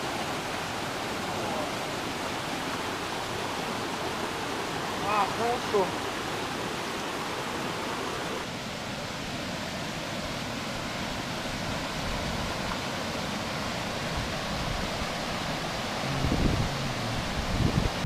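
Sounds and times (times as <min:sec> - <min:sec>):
stream pouring over rocks: 0:00.0 - 0:18.0.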